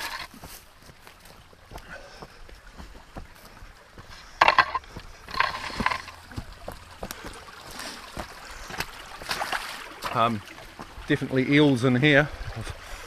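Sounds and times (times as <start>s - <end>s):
footsteps crunching on gravel: 0.0s - 11.1s
footsteps splashing in creek: 0.0s - 13.0s.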